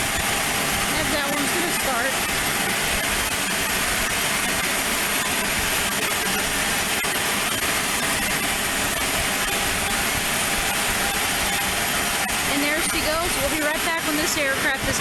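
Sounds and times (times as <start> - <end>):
aircraft engine rushing: 0.0 - 15.0.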